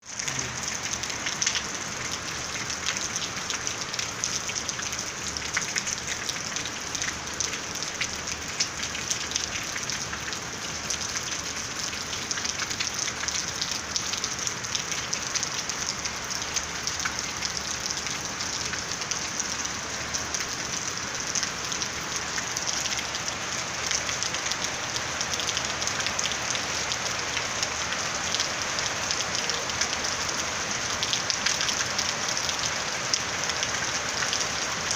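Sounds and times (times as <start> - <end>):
rain on a rooftop: 0.0 - 34.9.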